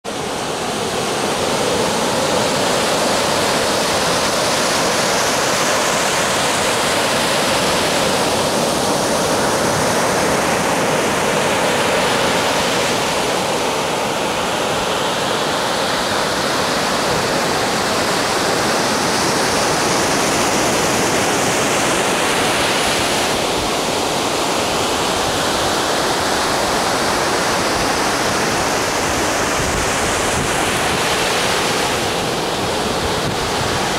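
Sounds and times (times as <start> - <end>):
ocean waves breaking on shore: 0.0 - 33.9.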